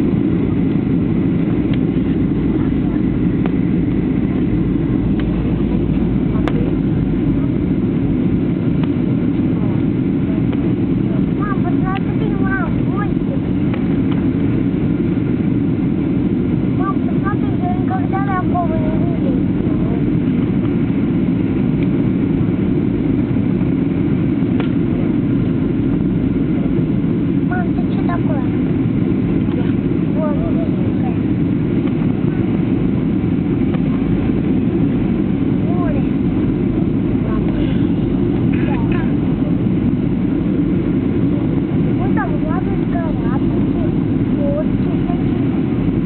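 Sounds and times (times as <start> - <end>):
airliner engines rumbling: 0.0 - 46.0.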